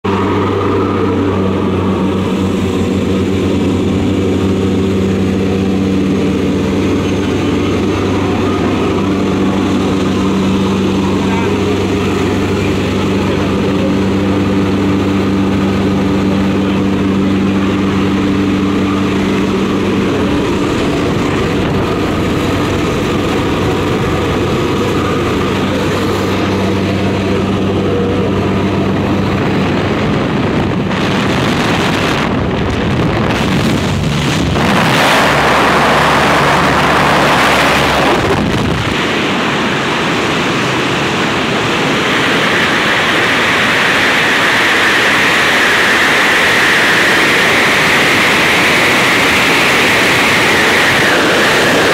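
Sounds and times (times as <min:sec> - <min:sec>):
propeller aircraft engine droning: 0:00.0 - 0:51.9
wind rushing on microphone: 0:00.0 - 0:51.9.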